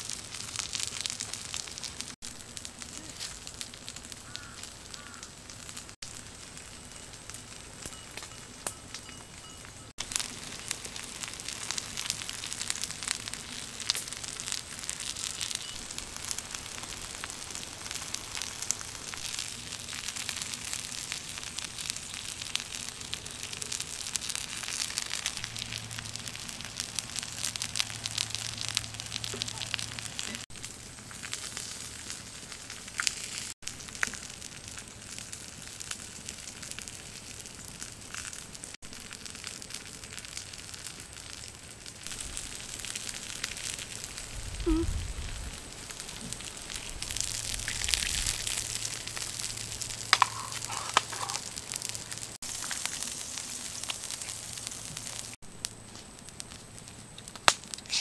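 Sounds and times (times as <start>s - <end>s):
fish sizzling on stone: 0.0s - 58.0s
wood fire crackling: 0.0s - 58.0s.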